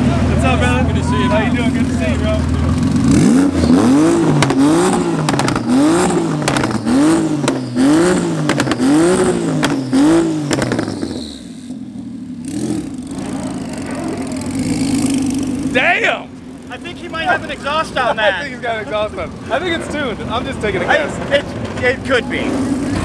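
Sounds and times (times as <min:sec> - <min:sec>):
car engine idling: 0:00.0 - 0:23.0
car engine revving: 0:00.0 - 0:23.0
sharp exhaust cracks: 0:00.1 - 0:23.0.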